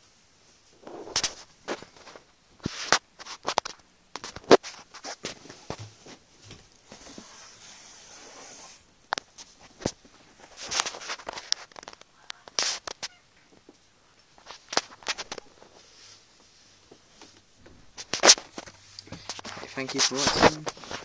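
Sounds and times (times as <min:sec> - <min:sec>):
scratchy rustle: 0:00.8 - 0:06.2, 0:06.9 - 0:13.2, 0:14.4 - 0:21.0.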